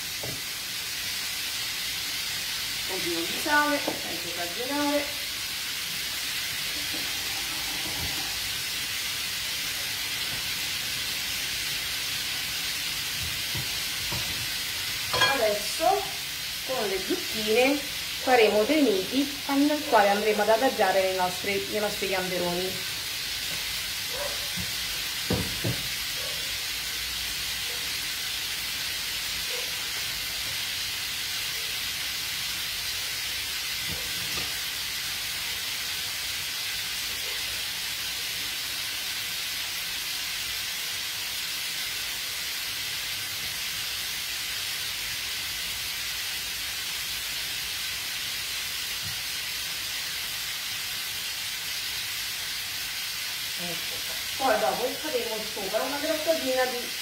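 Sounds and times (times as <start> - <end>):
prawns sizzling in pans: 0.0 - 57.0.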